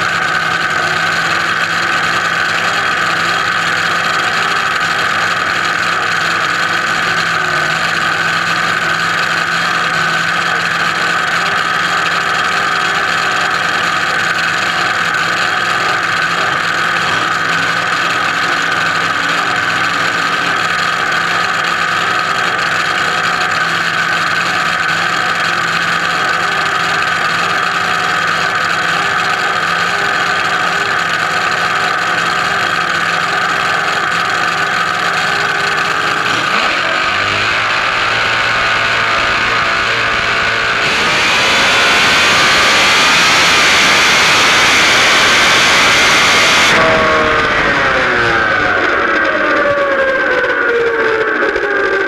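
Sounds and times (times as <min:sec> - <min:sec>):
dragster engine idling: 0:00.0 - 0:52.0.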